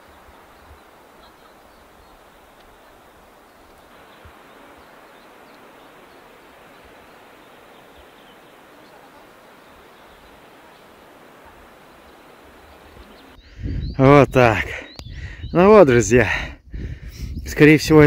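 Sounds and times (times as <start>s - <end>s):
rushing outdoor hiss: 0.0s - 18.0s.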